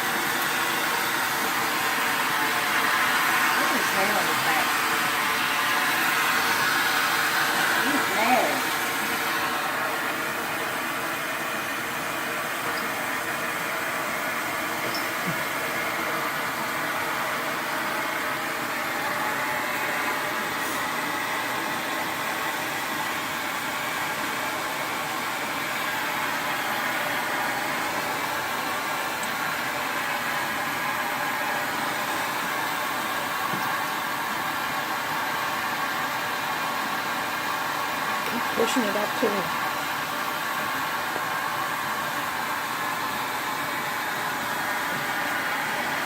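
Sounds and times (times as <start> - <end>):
vacuum cleaner motor running: 0.0 - 46.0.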